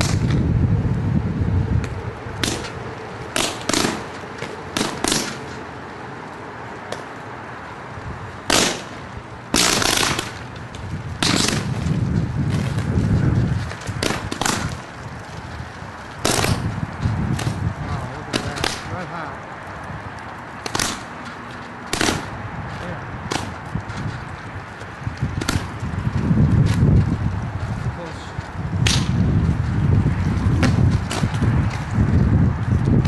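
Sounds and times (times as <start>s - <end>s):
power line arcing cracks: 0.0s - 1.0s, 1.7s - 33.0s.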